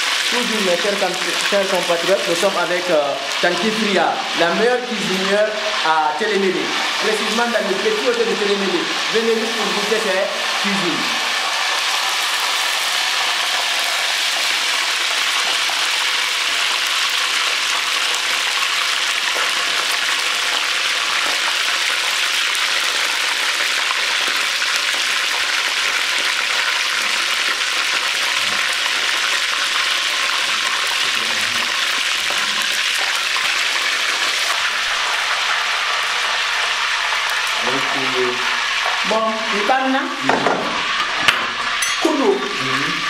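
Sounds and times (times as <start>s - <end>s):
oil sizzling while deep-frying: 0.0s - 43.0s.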